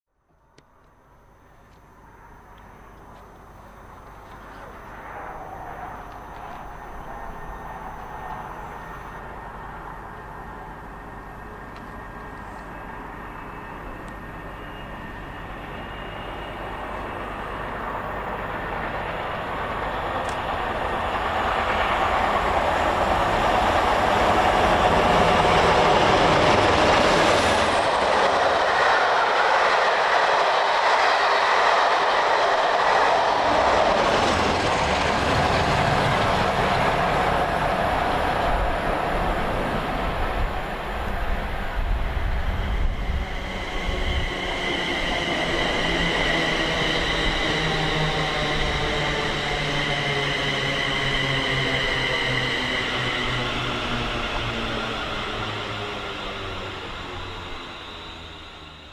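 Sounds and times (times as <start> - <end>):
diesel locomotive passing: 0.5 - 58.9
train coaches running past: 0.5 - 58.9.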